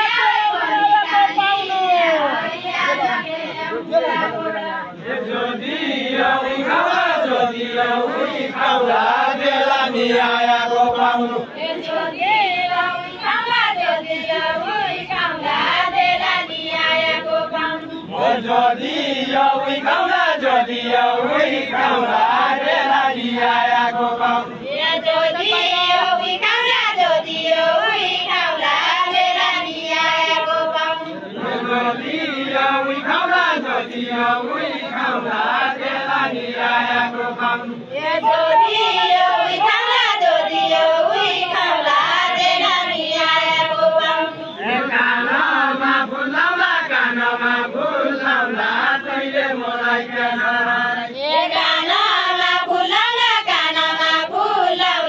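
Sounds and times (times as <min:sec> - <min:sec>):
men singing chant-like song: 0:00.0 - 0:55.0.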